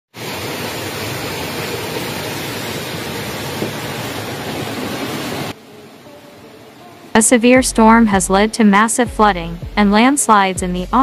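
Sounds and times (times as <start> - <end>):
floodwater rushing: 0.1 - 9.0.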